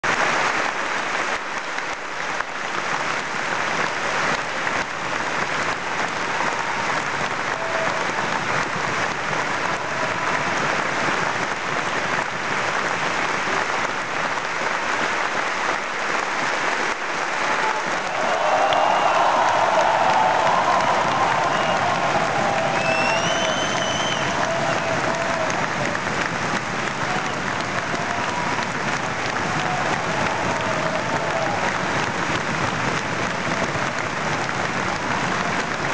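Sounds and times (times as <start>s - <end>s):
audience applauding: 0.0s - 35.9s.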